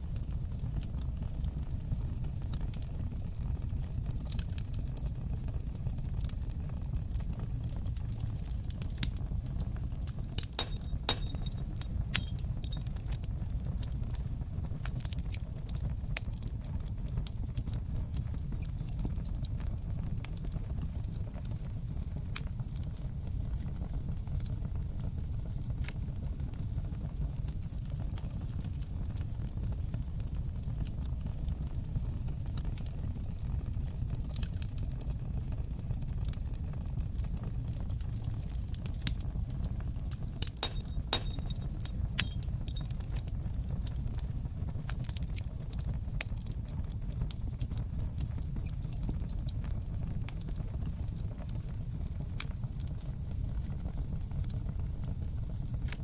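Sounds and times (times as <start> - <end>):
fire burning in fireplace: 0.0 - 56.0
fire crackles and pops: 0.0 - 56.0.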